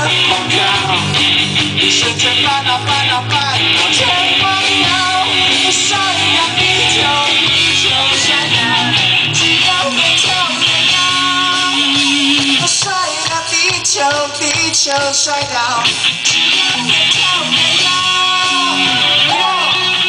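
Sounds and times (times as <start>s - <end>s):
guitar melody: 0.0s - 12.7s, 15.8s - 20.0s
live band music: 0.0s - 20.0s
steady bass line: 0.0s - 20.0s.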